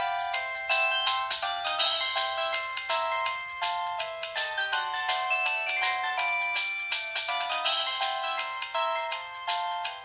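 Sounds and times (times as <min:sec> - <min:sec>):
synthesized phone ringtone: 0:00.0 - 0:10.0.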